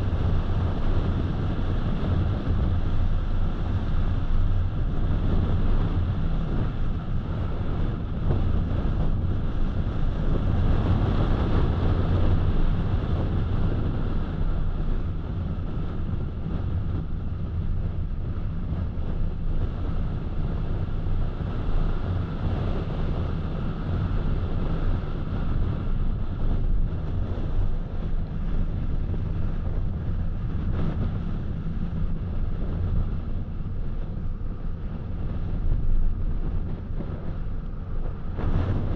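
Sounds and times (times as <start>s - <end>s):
low engine hum: 0.0s - 38.9s
wind: 0.0s - 38.9s.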